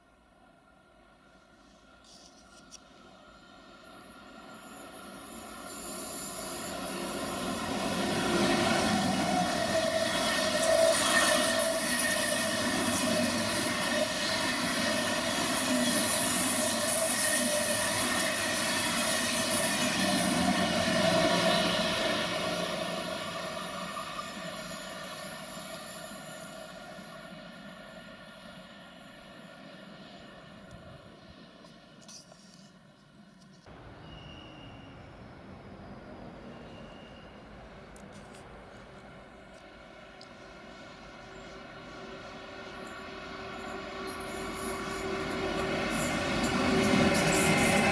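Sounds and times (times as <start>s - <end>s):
high-speed train passing: 0.0s - 47.9s.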